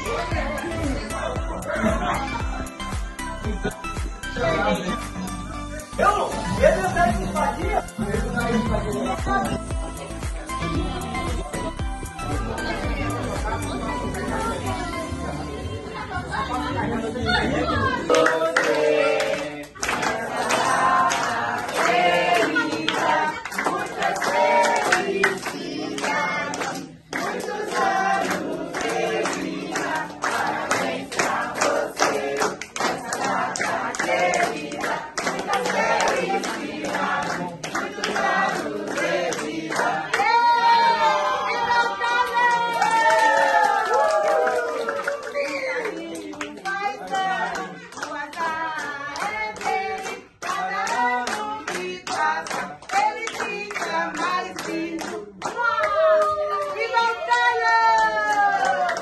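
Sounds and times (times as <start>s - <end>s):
people clapping: 0.0s - 5.6s, 17.3s - 59.0s
group singing birthday song: 0.0s - 59.0s.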